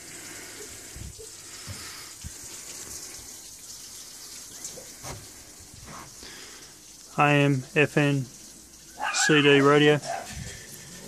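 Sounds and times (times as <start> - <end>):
water running: 0.0 - 11.0.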